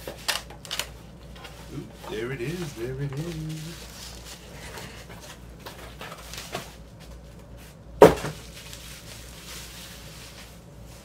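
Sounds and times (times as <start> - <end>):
cardboard and bubble wrap rustling: 0.0 - 11.0.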